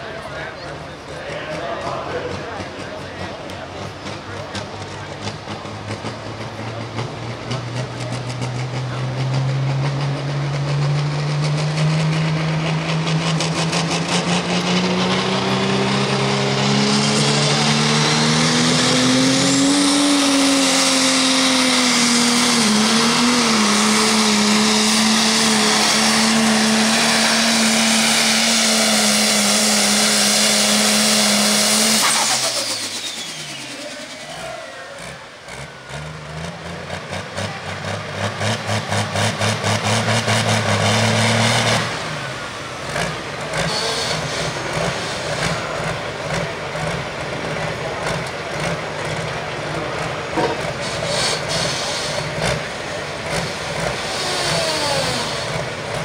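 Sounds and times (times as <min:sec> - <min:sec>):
diesel tractor engine at full power: 0:00.0 - 0:56.0
high turbo whine: 0:07.8 - 0:56.0.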